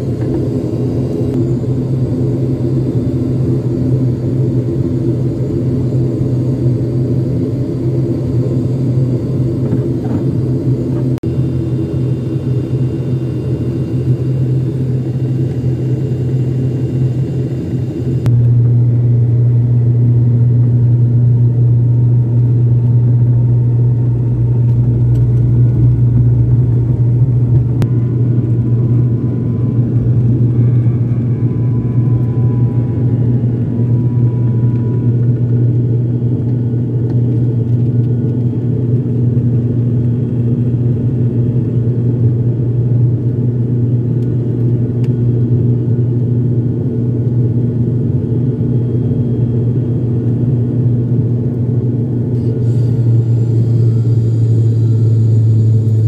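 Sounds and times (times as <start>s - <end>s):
airliner engine drone: 0.0s - 56.0s.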